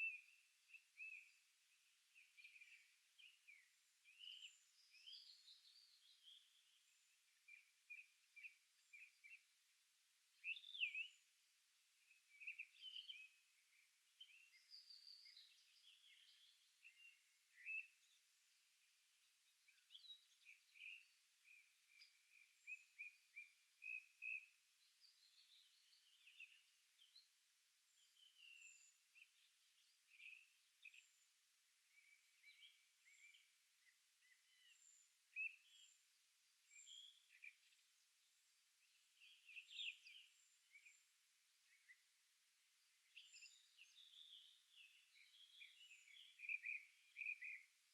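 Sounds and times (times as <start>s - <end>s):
small birds chirping and trilling: 0.0s - 47.9s.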